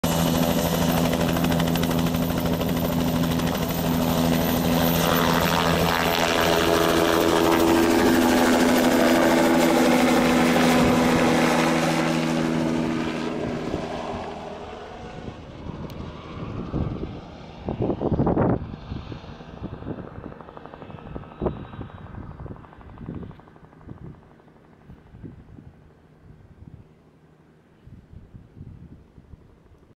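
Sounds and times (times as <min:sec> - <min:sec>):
helicopter taking off: 0:00.0 - 0:26.3.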